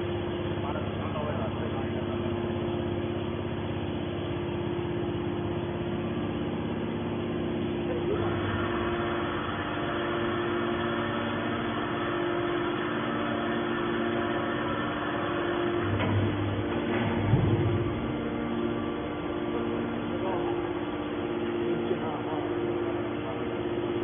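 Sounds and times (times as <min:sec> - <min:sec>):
hydraulic baler motor humming: 0:00.0 - 0:24.0.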